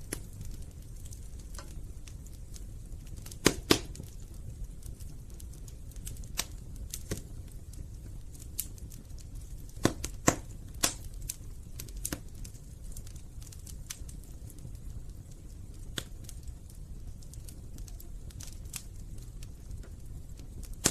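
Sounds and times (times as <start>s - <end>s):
low rumble of burning fire: 0.0s - 20.9s
wood fire crackling and popping: 0.0s - 20.9s.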